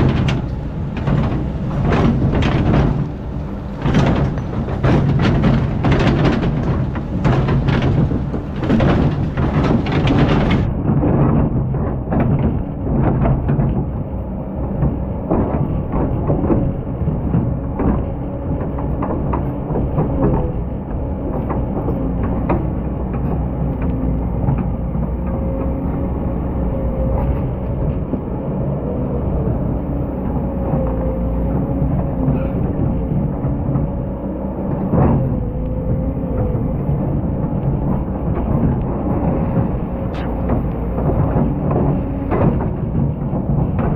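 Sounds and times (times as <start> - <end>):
excavator diesel engine running: 0.0 - 43.9
knocks and rattles: 0.0 - 43.9.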